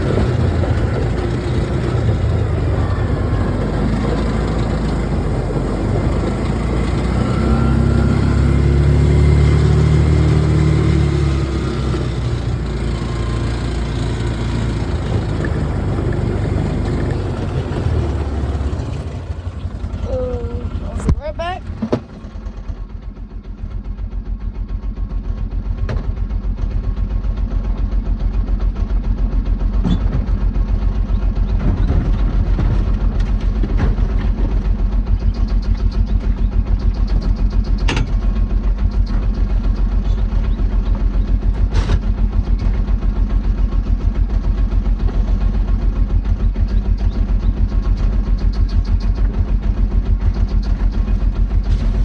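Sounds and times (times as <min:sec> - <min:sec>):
engine running with deep throb: 0:00.0 - 0:52.0.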